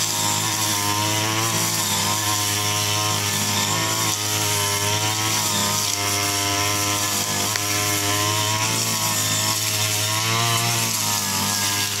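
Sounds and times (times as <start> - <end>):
brush cutter engine running: 0.0 - 12.0.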